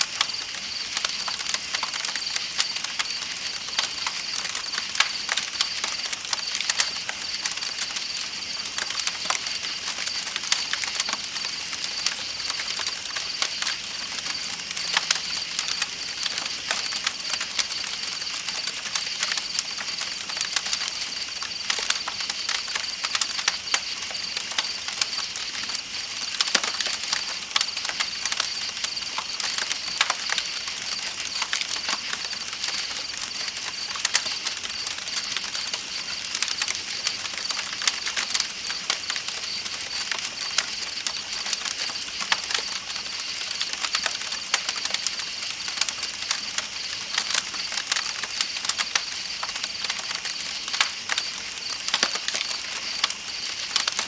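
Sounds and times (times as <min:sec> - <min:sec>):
campfire crackling and popping: 0:00.0 - 0:54.0
night insects chirping: 0:00.0 - 0:54.0.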